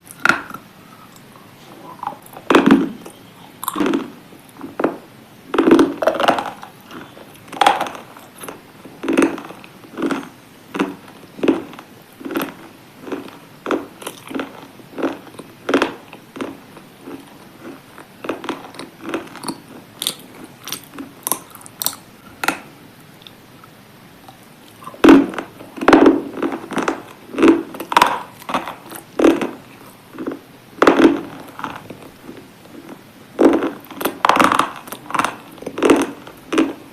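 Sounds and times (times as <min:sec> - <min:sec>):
person crunching hard food: 0:00.1 - 0:22.6, 0:24.3 - 0:36.9.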